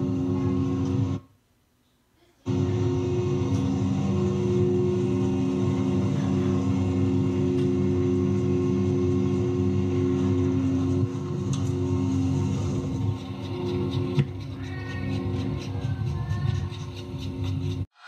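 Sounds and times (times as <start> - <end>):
drive motor humming: 0.0 - 1.2, 2.5 - 17.9.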